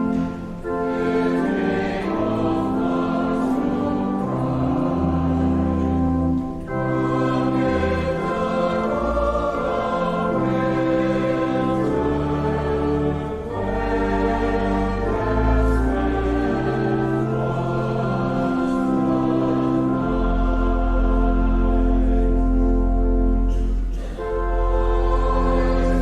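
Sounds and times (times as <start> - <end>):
choir singing a hymn: 0.0 - 26.0
held accompaniment chords: 0.0 - 26.0.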